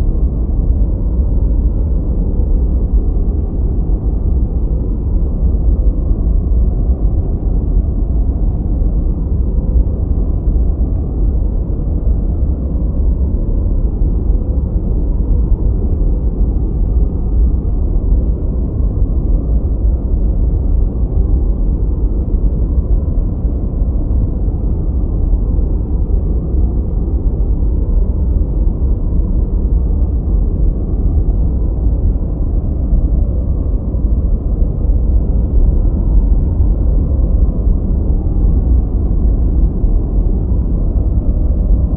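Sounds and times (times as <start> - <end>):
deep muffled noise: 0.0 - 41.9.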